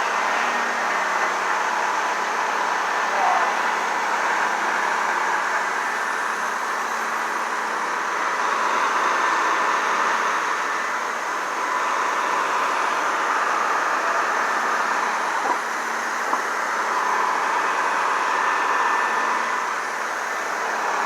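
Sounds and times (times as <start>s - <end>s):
faint steady whine: 0.0s - 21.0s
heavy trucks running: 0.0s - 21.0s.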